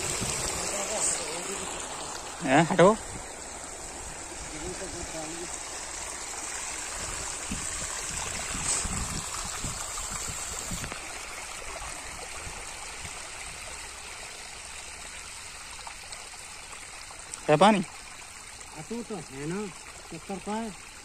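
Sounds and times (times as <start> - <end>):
water flowing: 0.0 - 21.0.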